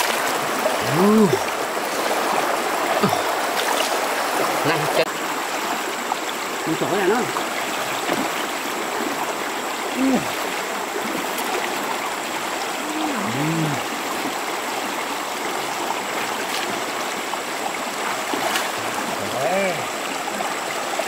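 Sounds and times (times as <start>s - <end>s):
stream water rushing over rocks: 0.0s - 21.0s.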